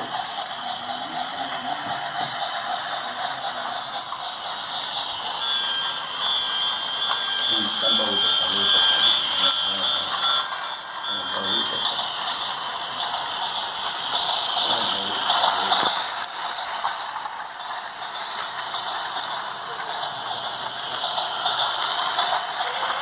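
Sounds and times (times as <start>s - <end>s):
toy train running on track: 0.0s - 23.0s.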